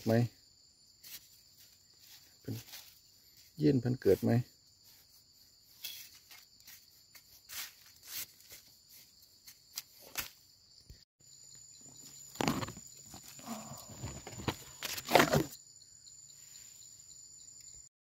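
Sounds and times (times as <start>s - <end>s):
high insect drone: 0.0s - 17.9s.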